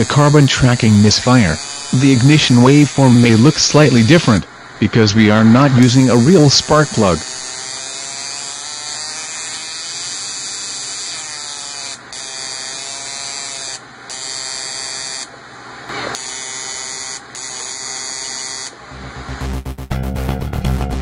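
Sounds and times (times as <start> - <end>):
high-pitched electric spark buzz: 0.0 - 4.5, 5.5 - 15.3, 16.1 - 18.8.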